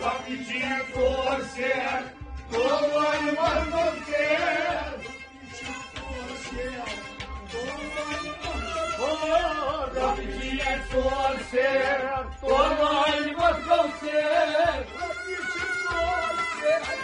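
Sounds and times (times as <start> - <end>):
instrumental accompaniment: 0.0 - 17.0
man singing: 0.0 - 17.0.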